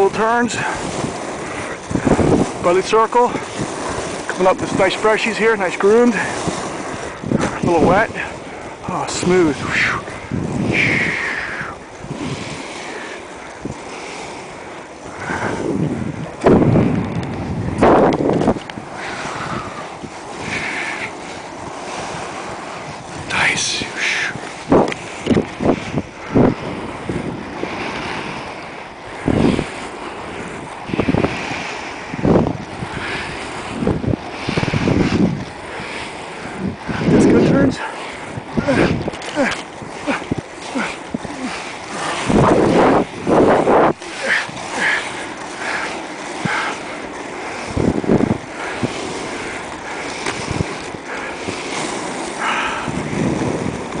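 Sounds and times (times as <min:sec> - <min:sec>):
skate wheels rolling on asphalt: 0:00.0 - 0:54.0
wind buffeting microphone: 0:00.0 - 0:54.0.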